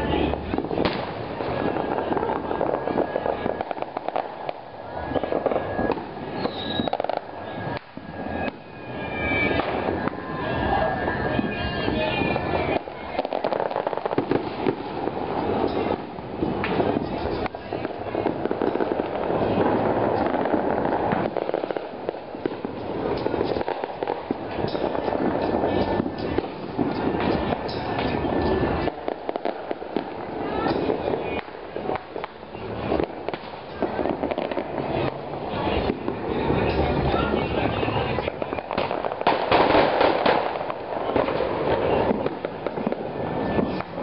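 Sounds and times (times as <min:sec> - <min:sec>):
firecracker pops: 0:00.0 - 0:08.6, 0:09.4 - 0:10.2, 0:12.0 - 0:37.4, 0:38.2 - 0:44.0
sharp firework bangs: 0:00.0 - 0:10.4, 0:11.3 - 0:44.0
constant fireworks crackle: 0:00.0 - 0:44.0.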